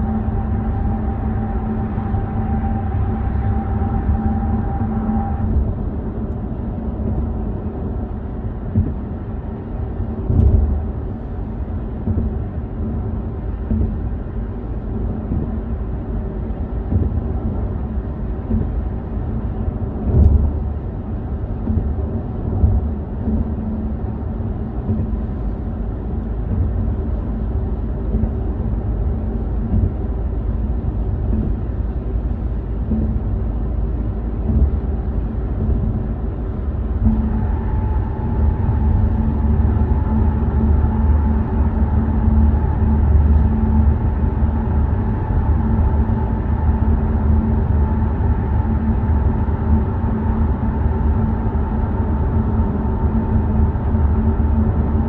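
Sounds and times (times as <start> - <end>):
short low thumps: 0.0 - 15.9, 16.5 - 49.1
car road and engine rumble: 0.0 - 55.0.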